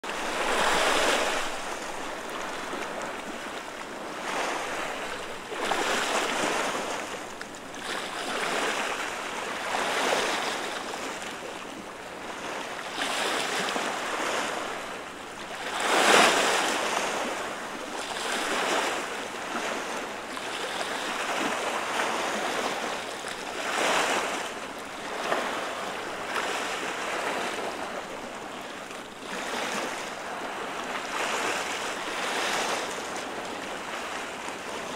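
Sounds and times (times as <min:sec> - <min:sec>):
waves washing over rocks: 0:00.0 - 0:34.9.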